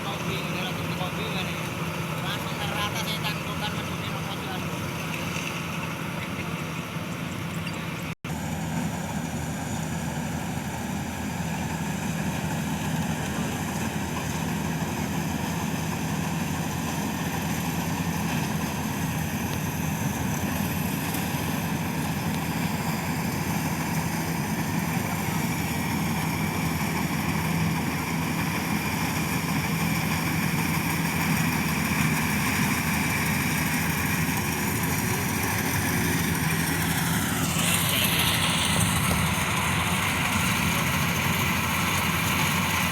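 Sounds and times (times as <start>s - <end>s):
combine harvester engine humming: 0.0s - 42.9s.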